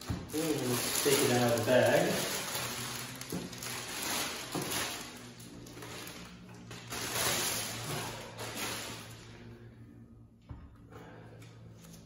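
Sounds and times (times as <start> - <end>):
plastic bag rustling: 0.0 - 9.7.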